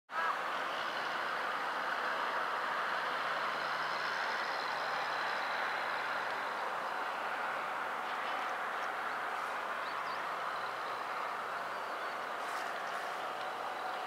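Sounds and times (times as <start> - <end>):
distant electric train rushing: 0.4 - 14.0.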